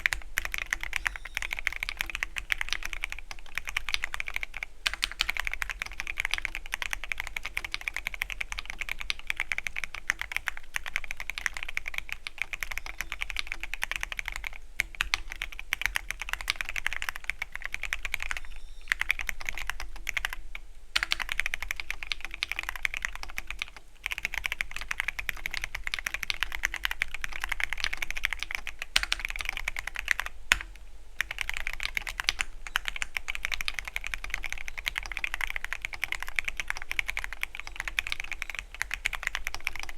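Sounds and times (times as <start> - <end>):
fast typing on mechanical keyboard: 0.0 - 20.4, 21.0 - 39.9.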